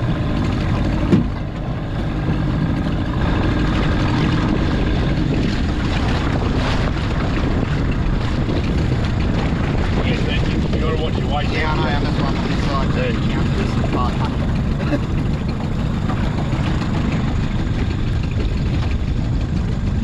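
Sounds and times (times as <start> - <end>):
water lapping around boat: 0.0 - 20.0
wind buffeting microphone: 0.0 - 20.0.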